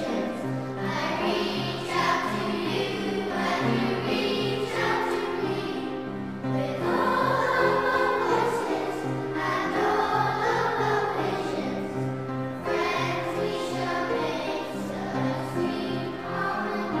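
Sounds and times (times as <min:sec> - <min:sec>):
choir singing held notes: 0:00.0 - 0:17.0
musical accompaniment: 0:00.0 - 0:17.0.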